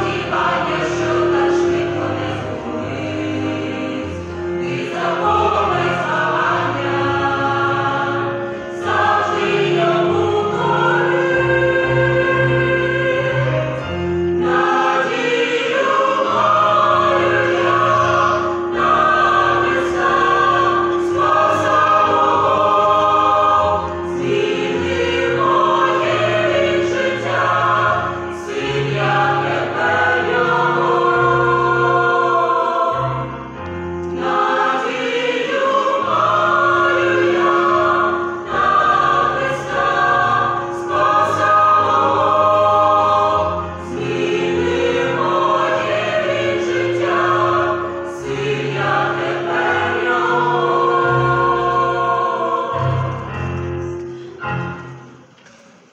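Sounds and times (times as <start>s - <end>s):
mixed choir singing a hymn: 0.0s - 55.2s.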